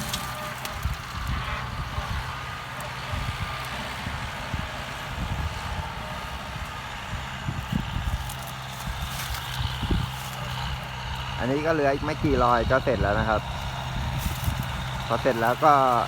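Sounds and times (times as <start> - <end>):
rotary implement shredding plants: 0.0 - 16.0
tractor diesel engine running: 0.0 - 16.0.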